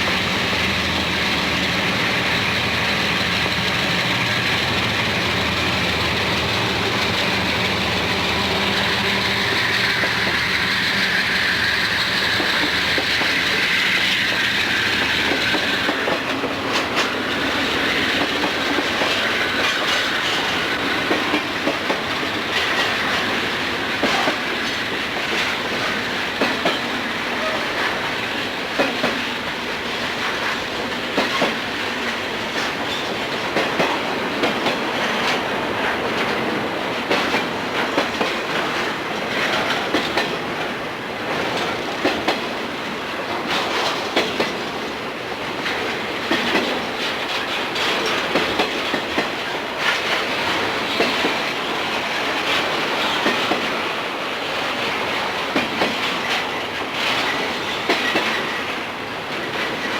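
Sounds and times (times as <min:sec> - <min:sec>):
freight train cars rolling: 0:00.0 - 0:59.9
steel wheels clacking over rail joints: 0:00.0 - 0:59.9.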